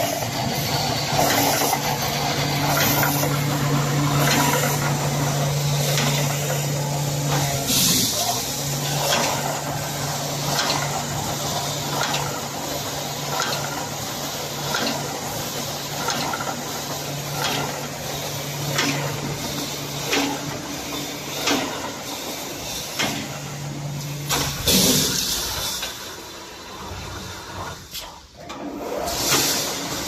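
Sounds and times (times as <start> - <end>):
welding machine clacking: 0.0 - 26.0.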